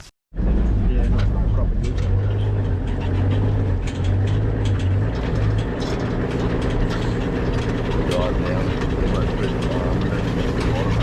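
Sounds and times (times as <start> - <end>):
vehicle engine droning: 0.4 - 11.0
light clicks and rattles: 1.0 - 11.0.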